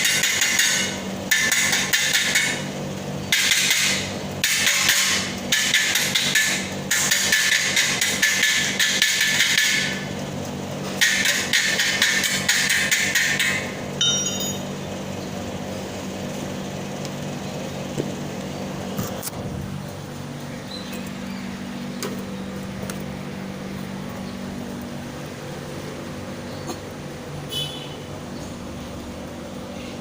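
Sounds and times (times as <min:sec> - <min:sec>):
welding machine hum: 0:00.0 - 0:29.7.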